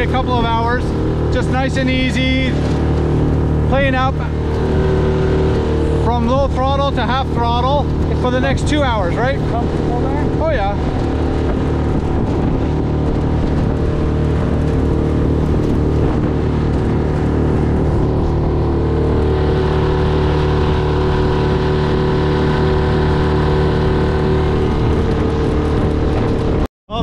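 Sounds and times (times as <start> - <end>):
outboard motor droning: 0.0 - 27.0.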